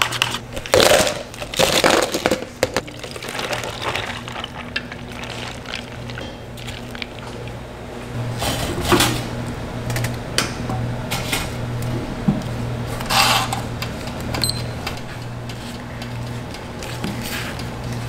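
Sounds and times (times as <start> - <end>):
low appliance hum: 0.0 - 18.0.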